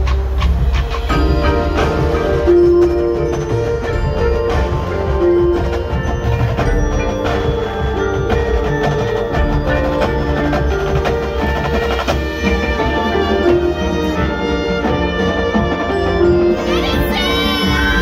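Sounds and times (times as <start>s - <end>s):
marching band playing: 0.0s - 18.0s
ringing bell and marimba notes: 0.9s - 18.0s.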